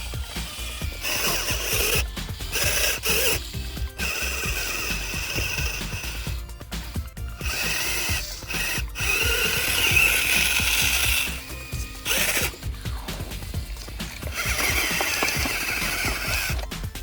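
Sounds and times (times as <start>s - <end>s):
background music: 0.0s - 17.0s
small geared motor whirring: 0.0s - 17.0s.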